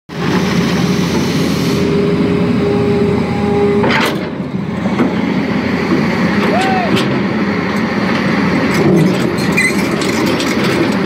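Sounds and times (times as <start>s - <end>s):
excavator diesel engine running: 0.1s - 11.0s.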